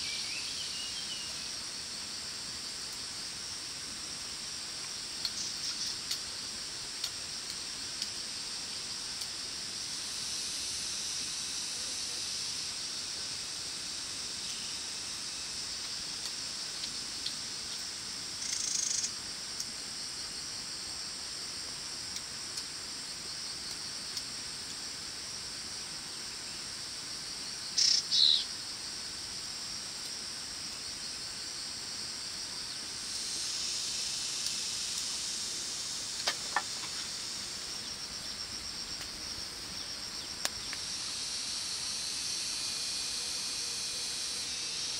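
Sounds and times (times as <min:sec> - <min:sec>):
insect buzz: 0:00.0 - 0:44.9
insect chorus drone: 0:00.0 - 0:44.9.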